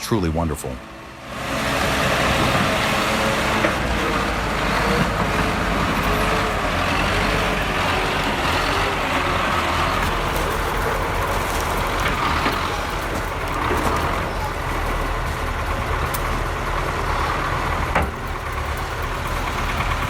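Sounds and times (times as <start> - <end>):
heavy diesel engines under load: 0.0 - 20.0.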